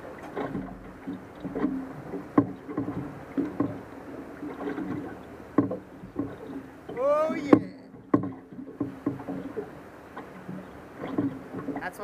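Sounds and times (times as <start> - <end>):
water slapping boat hull: 0.0 - 12.0.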